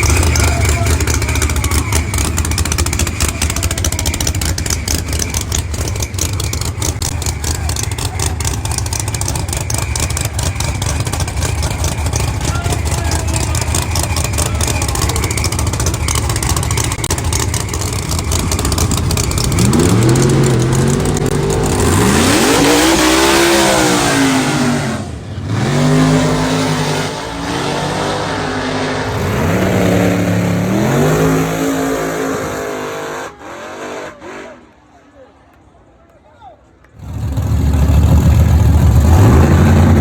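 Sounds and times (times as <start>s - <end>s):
race car engine accelerating: 0.0s - 34.8s, 37.0s - 40.0s.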